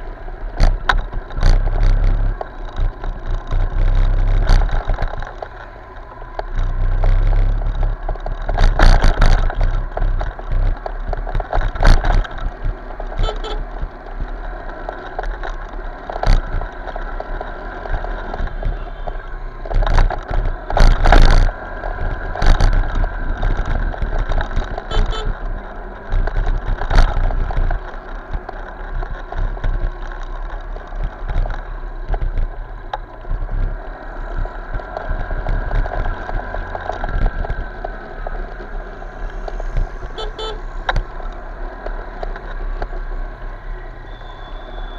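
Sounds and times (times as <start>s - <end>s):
motorcycle engine: 0.0s - 44.9s
road traffic noise: 0.0s - 44.9s
wind rumble on microphone: 0.0s - 44.9s.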